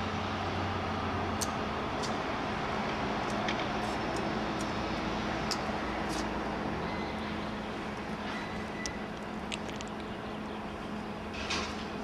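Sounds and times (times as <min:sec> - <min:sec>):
electric locomotive humming: 0:00.0 - 0:12.0.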